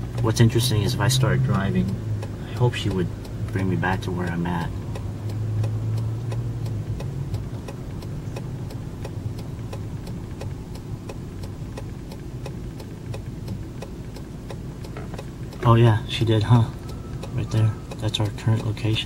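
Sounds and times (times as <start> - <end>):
car engine idling: 0.0 - 19.0
turn signal ticking: 0.0 - 19.0.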